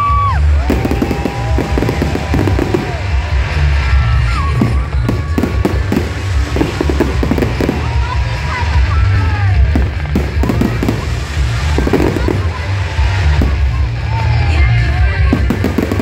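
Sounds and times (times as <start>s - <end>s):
fireworks crackling and banging: 0.0s - 16.0s
whistling fireworks: 0.0s - 16.0s
deep fireworks booming: 0.1s - 16.0s.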